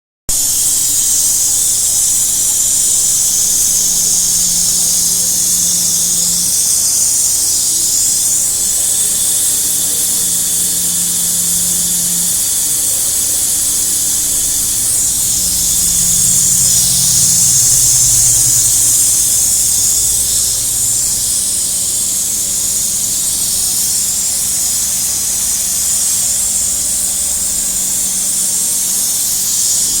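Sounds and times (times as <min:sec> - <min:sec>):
low machine hum: 0:00.3 - 0:30.0
machine hissing: 0:00.3 - 0:30.0.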